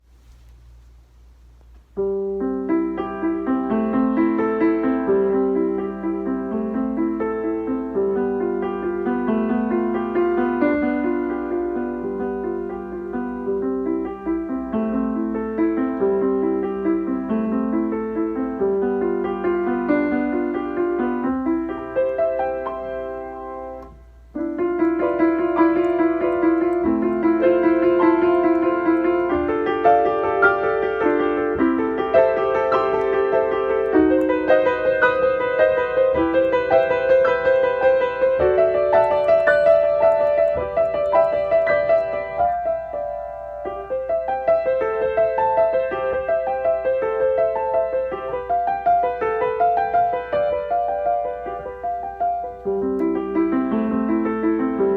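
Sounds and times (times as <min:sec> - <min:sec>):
slow piano piece: 0:00.0 - 0:54.9.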